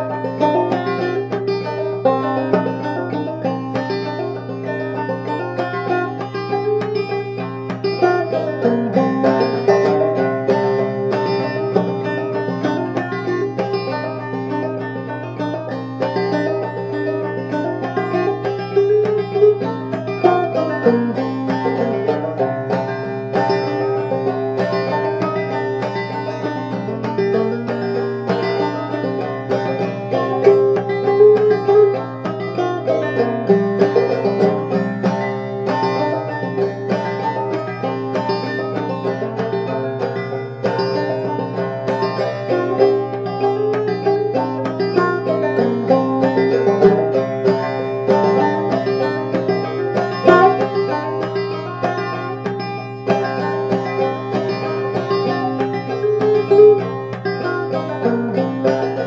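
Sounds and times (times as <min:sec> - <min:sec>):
banjo plucked clawhammer style: 0:00.0 - 0:59.0.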